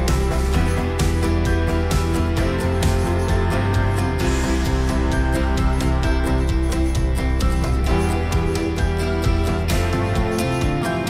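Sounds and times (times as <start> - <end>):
music with beat and guitar: 0.0 - 11.0.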